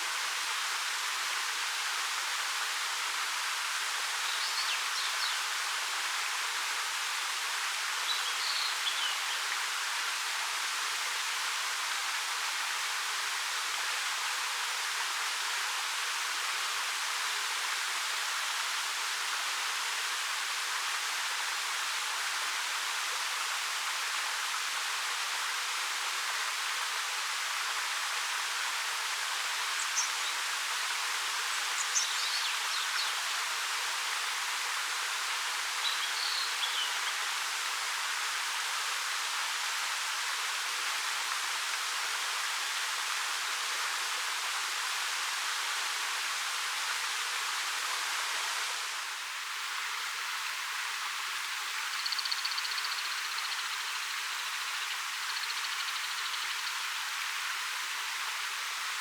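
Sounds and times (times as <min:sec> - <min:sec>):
waterfall pouring over rock: 0:00.1 - 0:52.0.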